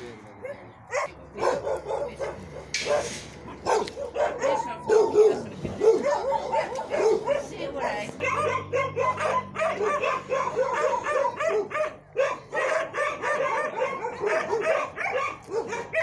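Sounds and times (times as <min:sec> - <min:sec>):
dogs barking and yelping: 0:00.4 - 0:16.0.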